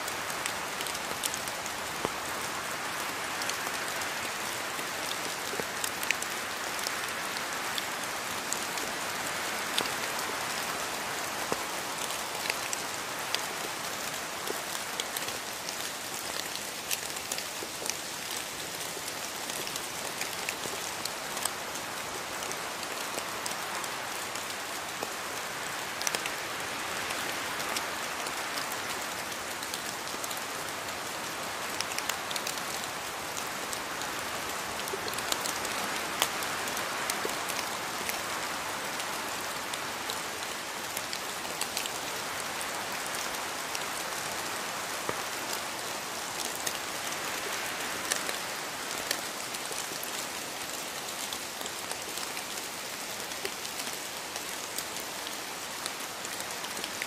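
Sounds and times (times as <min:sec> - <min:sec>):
rain falling: 0:00.0 - 0:57.0
raindrops ticking on leaves: 0:00.0 - 0:57.0.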